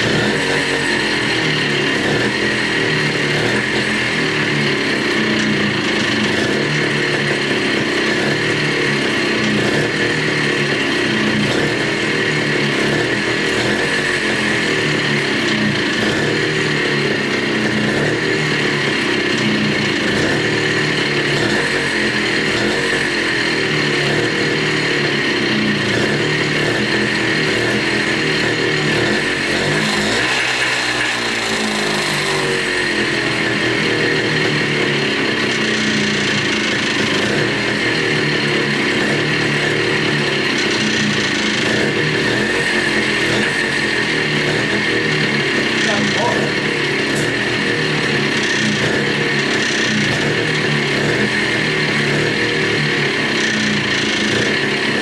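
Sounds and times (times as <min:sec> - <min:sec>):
two-stroke motorcycle engine running: 0:00.0 - 0:55.0.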